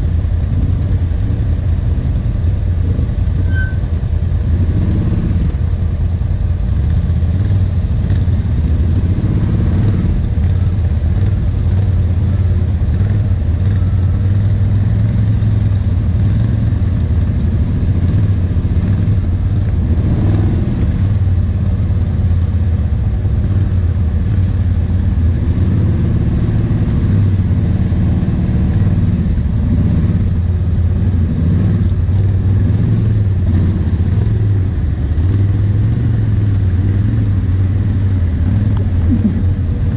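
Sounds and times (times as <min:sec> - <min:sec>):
quad engine at low revs: 0:00.0 - 0:39.9.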